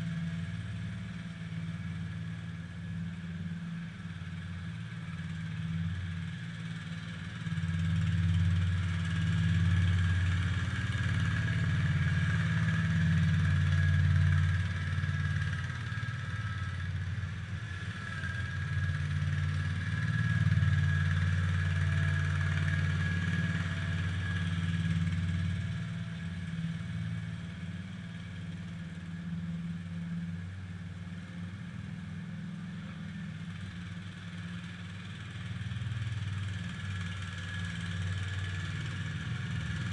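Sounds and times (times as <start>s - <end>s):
garden tractor engine under load: 0.0s - 39.9s.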